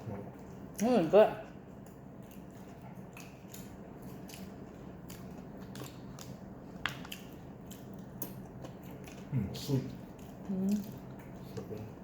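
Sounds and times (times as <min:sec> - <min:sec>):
steady low hum: 0:00.0 - 0:12.0
person chewing with crunches: 0:00.3 - 0:12.0.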